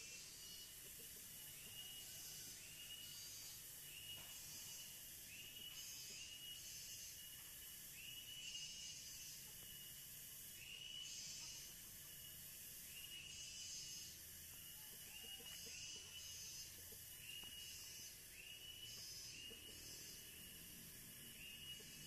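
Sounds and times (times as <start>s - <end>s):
insects buzzing: 0.0s - 22.0s
insects chirping: 0.0s - 22.0s.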